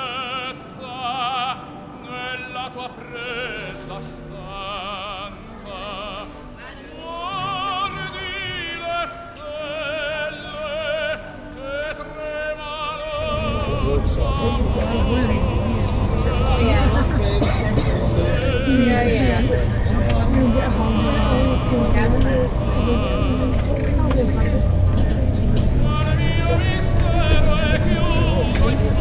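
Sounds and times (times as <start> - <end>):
operatic singing: 0.0 - 29.0.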